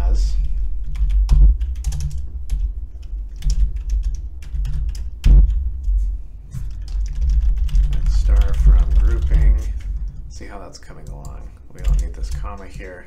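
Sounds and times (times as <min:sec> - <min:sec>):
heavy keystrokes: 0:00.0 - 0:06.0, 0:06.6 - 0:10.2, 0:11.0 - 0:13.0.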